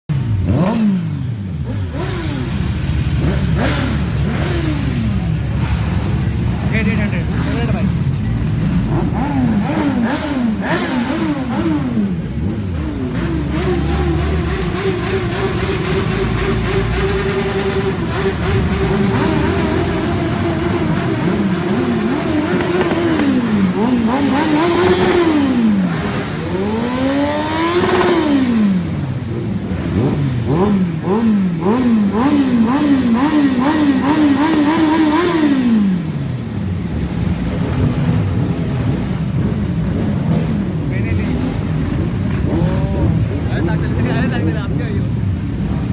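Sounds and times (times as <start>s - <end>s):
superbike engines revving: 0.1s - 45.9s.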